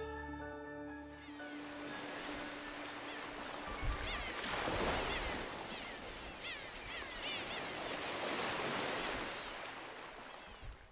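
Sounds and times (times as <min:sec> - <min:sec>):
sea waves washing in: 0:01.4 - 0:10.9.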